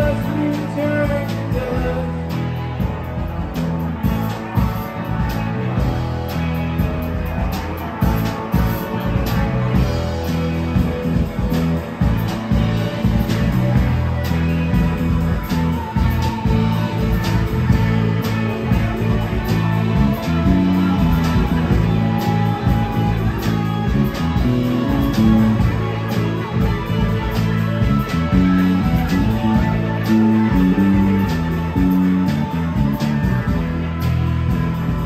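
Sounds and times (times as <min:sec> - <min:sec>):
bass guitar: 0:00.0 - 0:35.0
drum kit beat: 0:00.0 - 0:35.0
electric guitars: 0:00.0 - 0:35.0.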